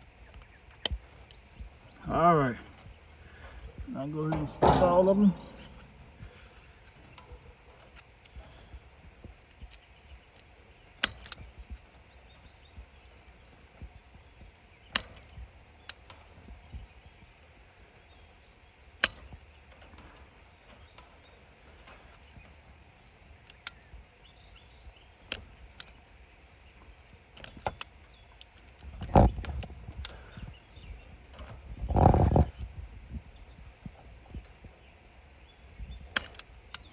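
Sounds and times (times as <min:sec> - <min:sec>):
wire clicks and taps: 0:00.0 - 0:36.9.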